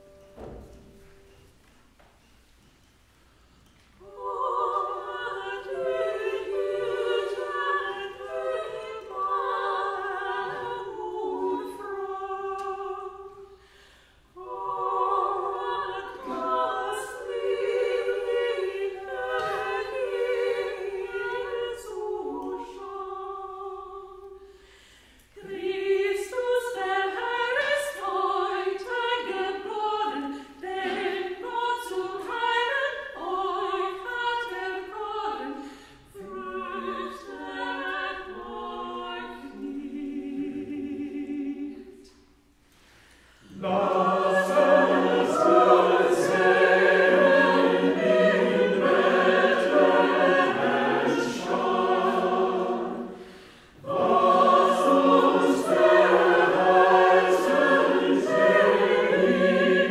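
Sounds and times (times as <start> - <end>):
choir singing a carol: 3.9 - 59.9.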